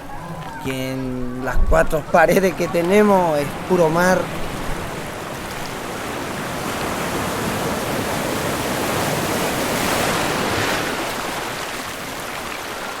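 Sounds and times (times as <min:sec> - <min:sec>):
sea wave washing in: 0:02.6 - 0:13.0.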